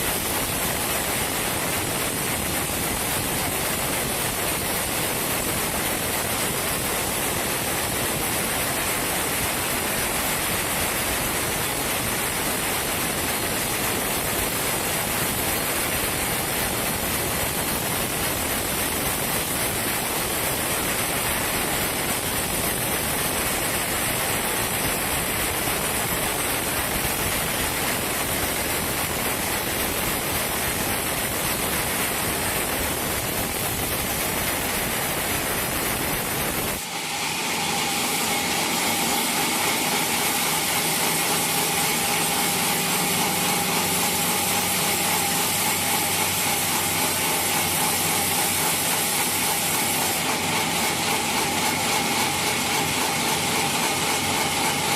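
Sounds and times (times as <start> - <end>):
sawmill machinery running: 0.0 - 54.9.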